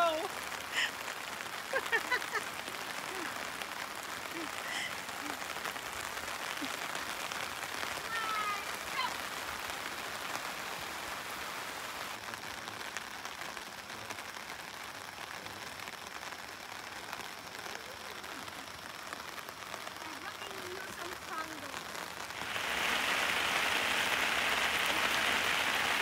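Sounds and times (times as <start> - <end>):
rain pattering on a tarp: 0.0 - 26.0.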